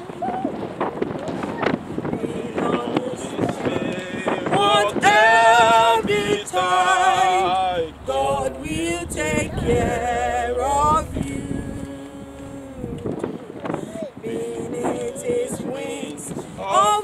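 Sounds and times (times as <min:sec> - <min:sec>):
group singing a hymn unaccompanied: 0:00.0 - 0:17.0.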